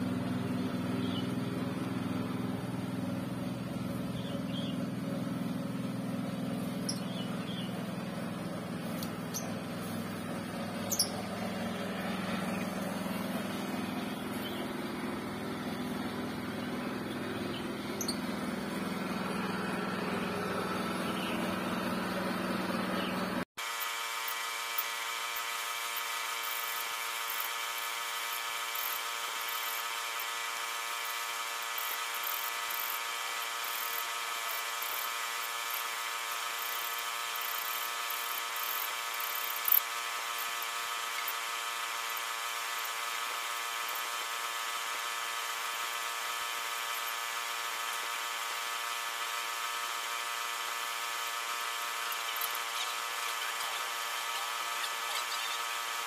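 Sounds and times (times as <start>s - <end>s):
air compressor whining: 0.0s - 56.0s.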